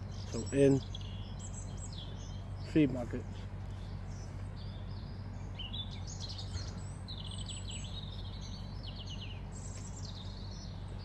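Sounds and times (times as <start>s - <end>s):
low background hum: 0.0s - 11.0s
songbird chirps and trills: 0.0s - 11.0s.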